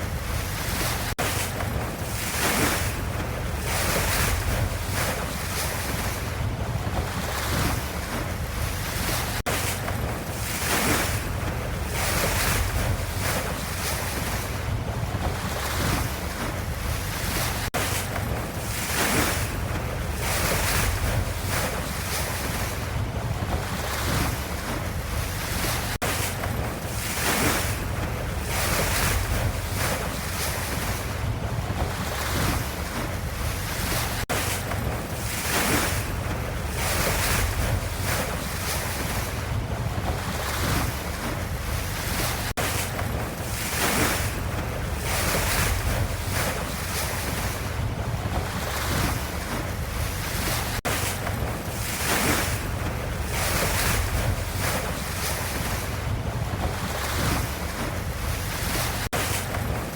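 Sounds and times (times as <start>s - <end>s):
ocean waves washing: 0.0s - 59.9s.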